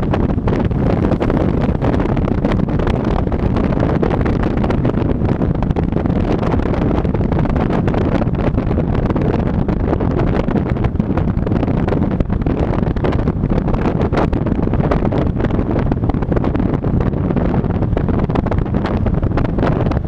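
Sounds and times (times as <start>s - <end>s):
road noise rumble: 0.0s - 20.0s
wind buffeting microphone: 0.0s - 20.0s.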